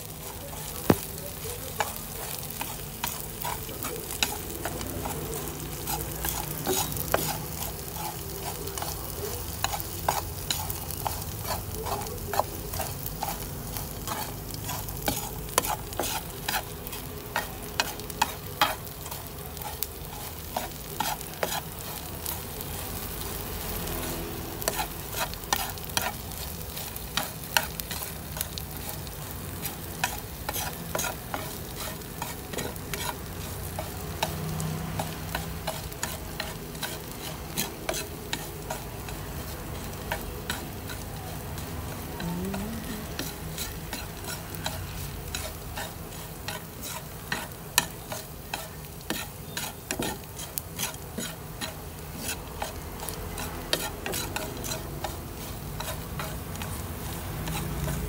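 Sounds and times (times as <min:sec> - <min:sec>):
fish sizzling in a pan: 0:00.0 - 0:58.0.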